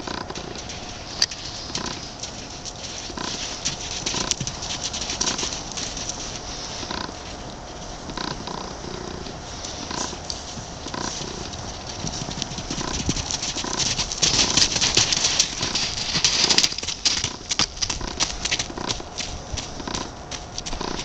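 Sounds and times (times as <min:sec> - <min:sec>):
hooves striking sand: 0:00.0 - 0:21.0.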